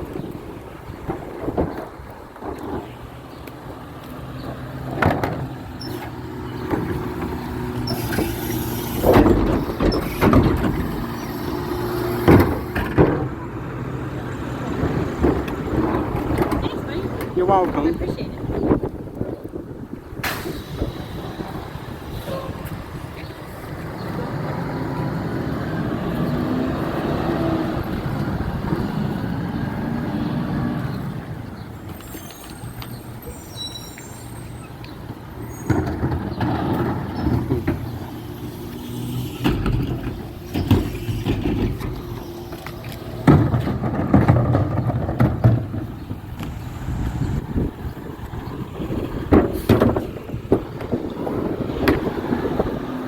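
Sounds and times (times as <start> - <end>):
garbage truck engine: 0.0 - 53.0.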